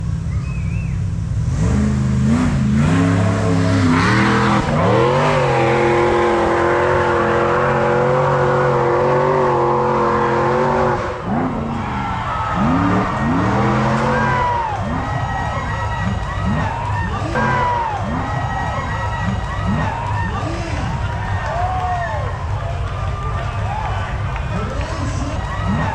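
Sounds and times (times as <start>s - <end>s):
engine revving: 0.0s - 21.5s.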